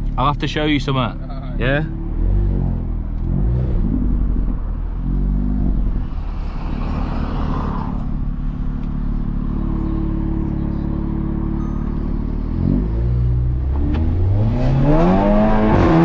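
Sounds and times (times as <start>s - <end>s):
turbocharged car engine revving: 0.0s - 16.0s.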